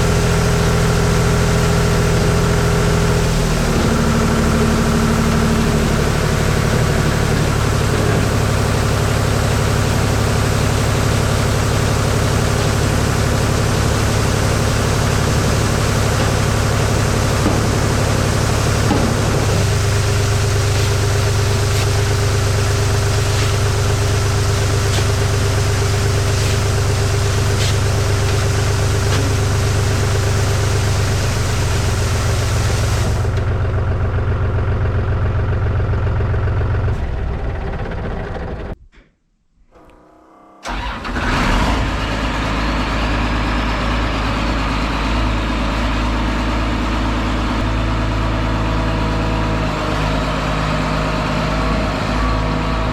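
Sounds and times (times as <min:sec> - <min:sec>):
farm machinery humming: 0:00.0 - 0:38.8, 0:40.6 - 0:52.9
engine starting and idling: 0:03.2 - 0:38.8, 0:40.6 - 0:47.7.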